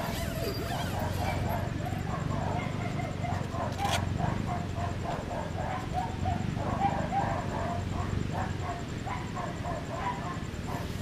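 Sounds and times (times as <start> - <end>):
chorus of animal calls: 0.0 - 11.0.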